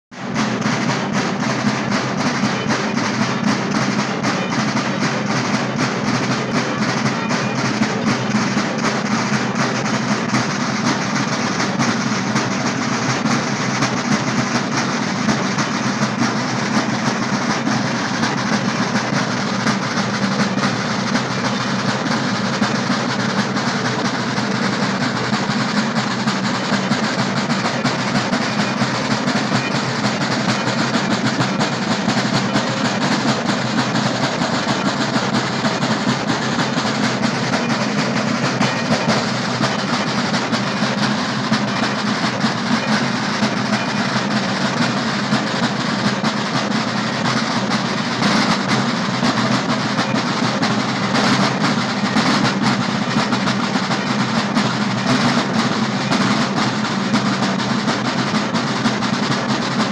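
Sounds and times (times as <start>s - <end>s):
large drums beaten with sticks: 0.1s - 59.9s.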